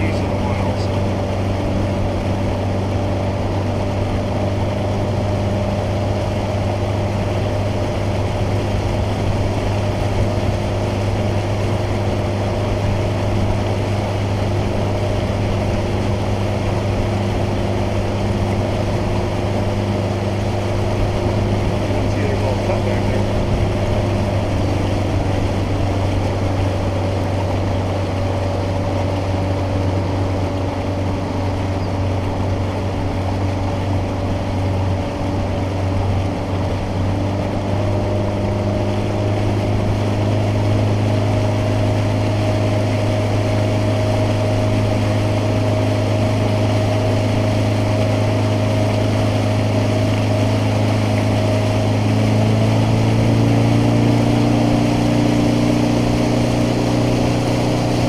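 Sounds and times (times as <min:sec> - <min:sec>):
outboard motor drone: 0:00.0 - 0:58.0
wind and water hiss: 0:00.0 - 0:58.0.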